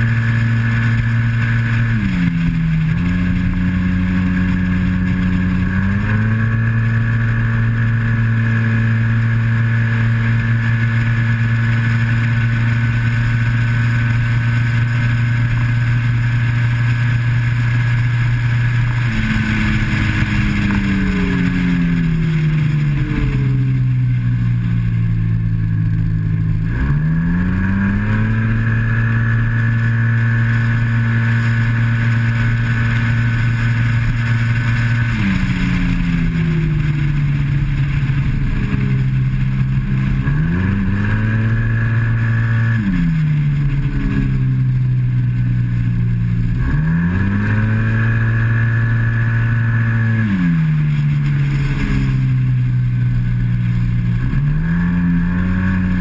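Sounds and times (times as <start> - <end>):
rushing wind: 0.0 - 56.0
scooter engine at high revs: 0.0 - 56.0.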